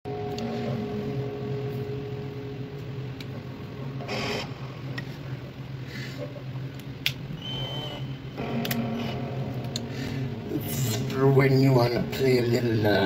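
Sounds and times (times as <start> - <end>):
amplifier hum: 0.1 - 13.0.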